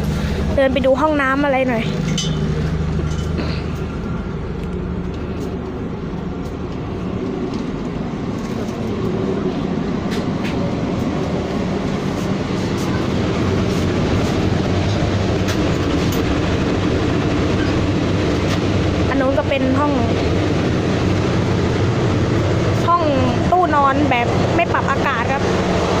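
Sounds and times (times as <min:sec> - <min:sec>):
low hum: 0:00.0 - 0:26.0
train wheels rumbling on rails: 0:00.0 - 0:26.0.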